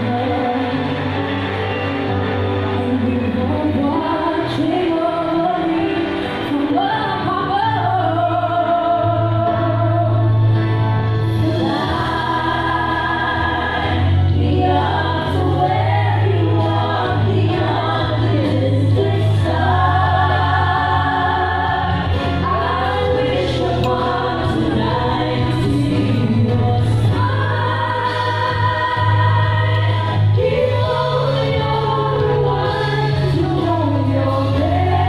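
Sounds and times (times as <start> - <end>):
woman singing lead: 0.0 - 35.0
young voices singing in harmony: 2.6 - 10.4, 11.3 - 35.0.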